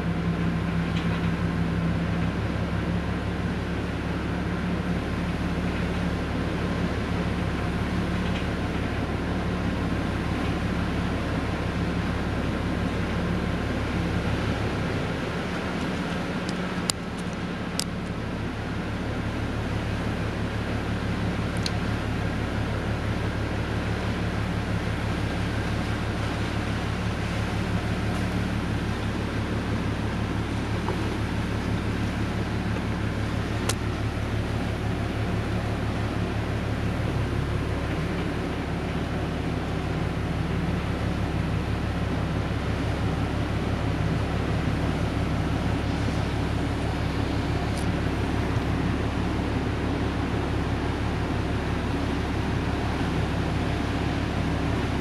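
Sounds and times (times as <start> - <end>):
ship engines humming: 0.0 - 55.0
water wash: 0.0 - 55.0.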